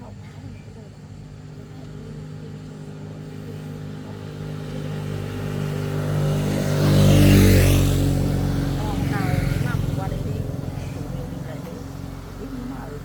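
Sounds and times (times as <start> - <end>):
vehicle engine passing by: 0.6 - 13.0.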